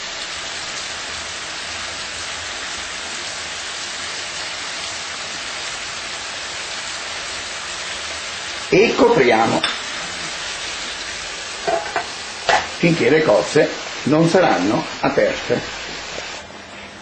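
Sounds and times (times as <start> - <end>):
mussels sizzling in a pan: 0.0 - 16.5.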